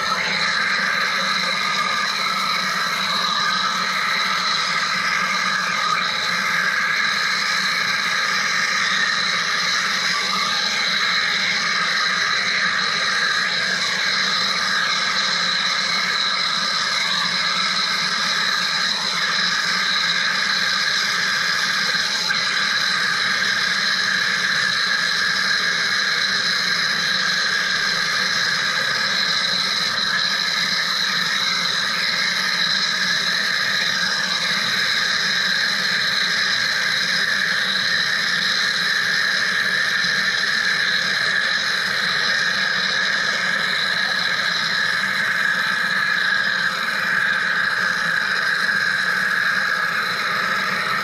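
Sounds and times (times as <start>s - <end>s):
machine hiss with whining tones: 0.0s - 51.0s.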